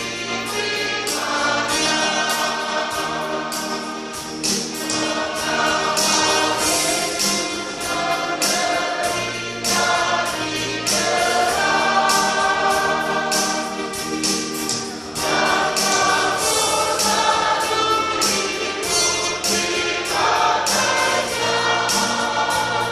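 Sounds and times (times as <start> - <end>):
church choir singing a hymn: 0.0 - 22.9.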